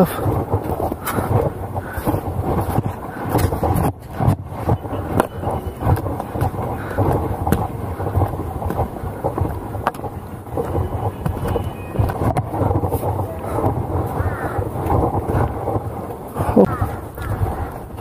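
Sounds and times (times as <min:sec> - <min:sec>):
footsteps on dirt trail: 0:00.0 - 0:17.8
wind on microphone: 0:00.0 - 0:18.0.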